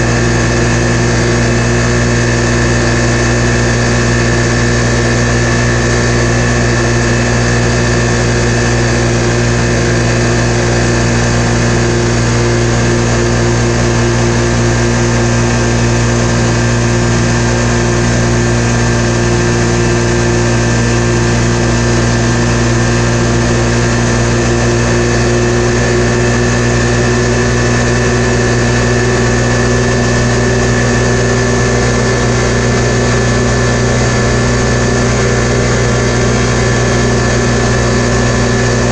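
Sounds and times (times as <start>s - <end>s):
engine running at high revs: 0.0s - 38.9s.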